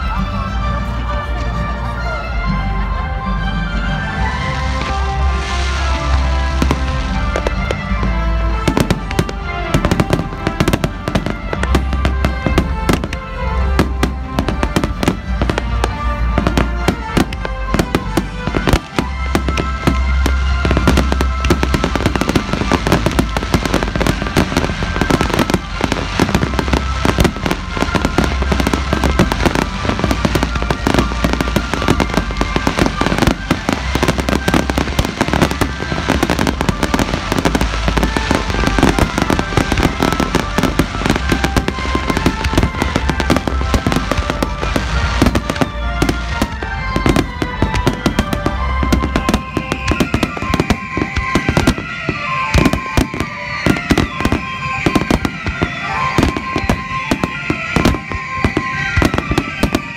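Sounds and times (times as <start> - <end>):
music playing: 0.0 - 59.9
fireworks bursting and crackling: 2.9 - 59.9.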